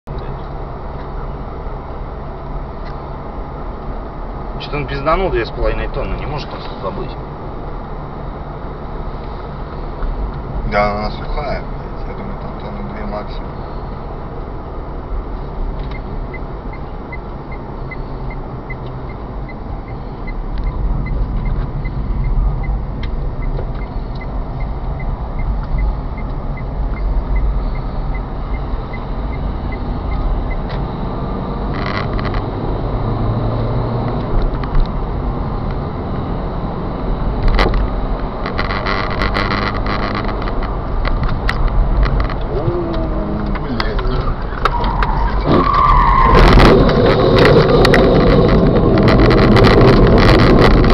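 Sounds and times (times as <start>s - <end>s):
car engine and tyre rumble: 0.0s - 50.9s.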